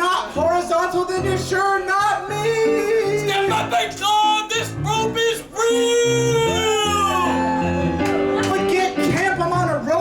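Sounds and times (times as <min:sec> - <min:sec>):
piano accompaniment: 0:00.0 - 0:10.0.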